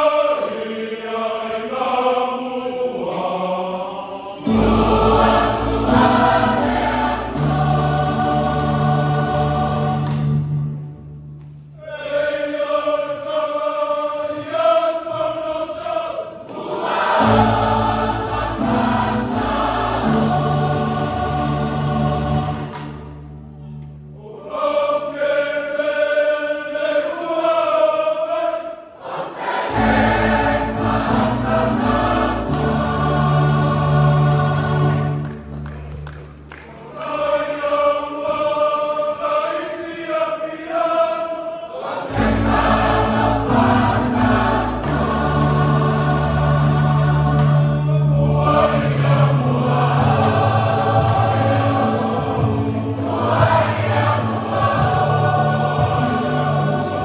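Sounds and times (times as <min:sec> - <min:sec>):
church choir singing a hymn: 0:00.0 - 0:57.0.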